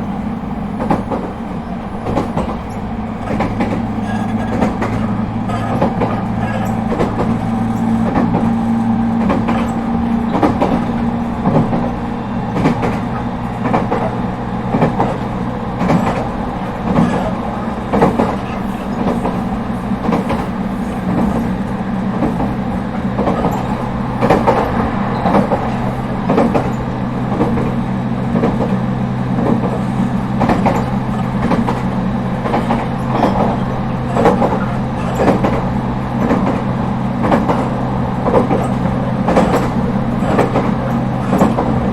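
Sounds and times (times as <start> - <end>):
train running hum: 0.0 - 41.9
train wheels clattering over joints: 0.7 - 41.9.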